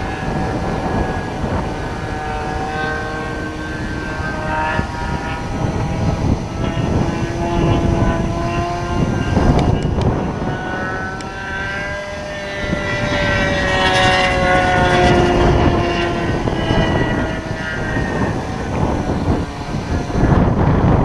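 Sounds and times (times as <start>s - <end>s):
model airplane engine drone: 0.0s - 21.0s
wind buffeting microphone: 0.0s - 21.0s.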